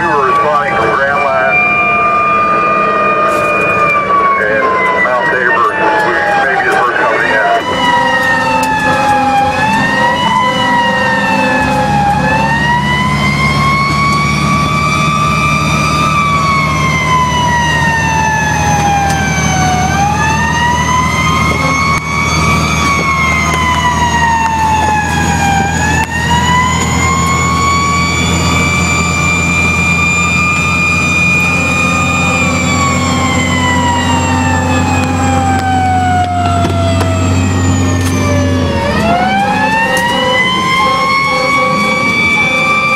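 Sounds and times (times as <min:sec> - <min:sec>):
fire truck siren wailing: 0:00.0 - 0:42.9.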